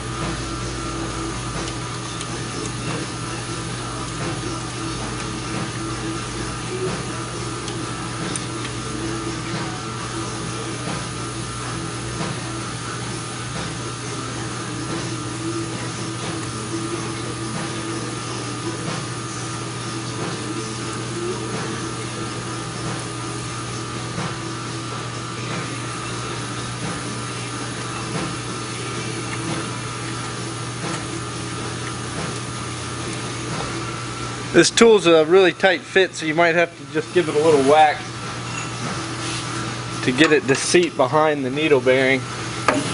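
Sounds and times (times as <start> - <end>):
steady machine hum: 0.0 - 42.9.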